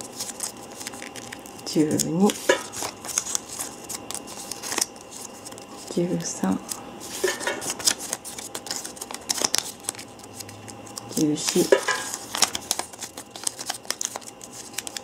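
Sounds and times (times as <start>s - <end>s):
paper rustling and crackling: 0.0s - 15.0s.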